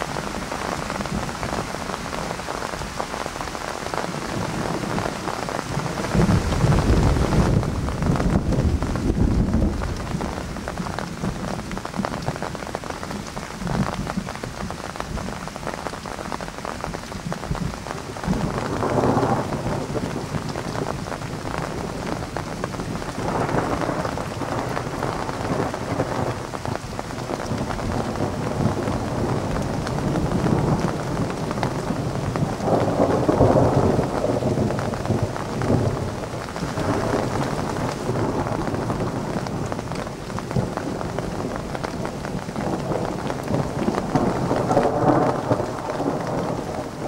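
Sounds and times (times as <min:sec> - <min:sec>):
steady rain falling: 0:00.0 - 0:47.0
thunder rumbling: 0:00.0 - 0:47.0.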